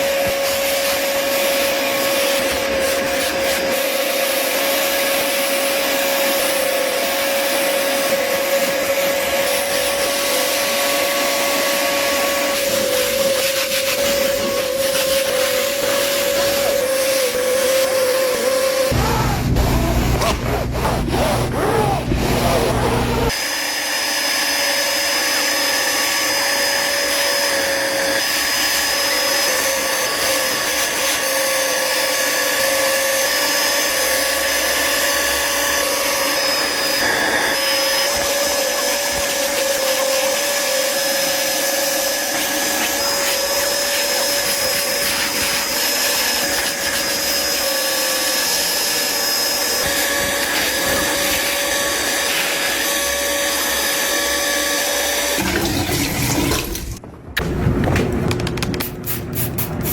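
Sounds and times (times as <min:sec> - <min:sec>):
vacuum motor whining: 0:00.0 - 0:57.6.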